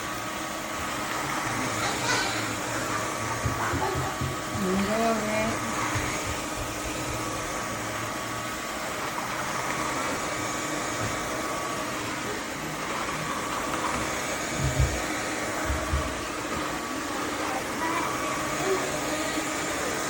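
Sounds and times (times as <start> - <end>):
vacuum mop running with whine: 0.0 - 20.0.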